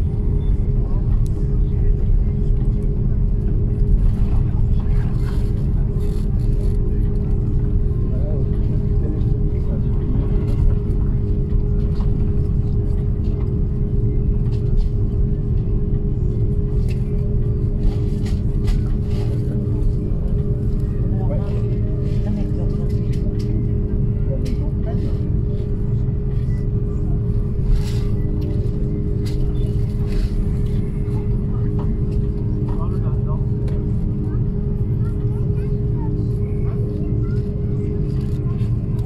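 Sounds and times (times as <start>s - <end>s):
vehicle rumble with droning hum: 0.0s - 39.0s.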